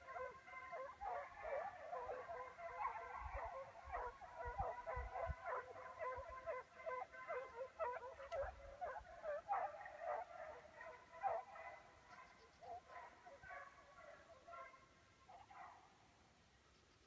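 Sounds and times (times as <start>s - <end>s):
dogs baying and yelping: 0.0s - 15.8s.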